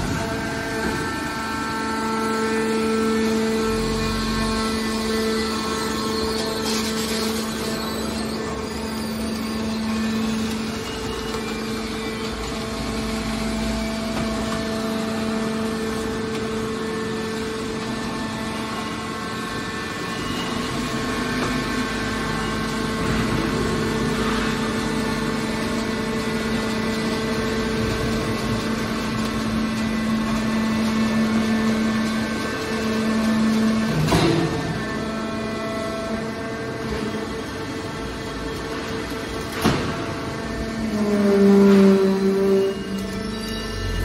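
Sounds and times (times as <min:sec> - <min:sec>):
hydraulic power unit humming: 0:00.0 - 0:44.0.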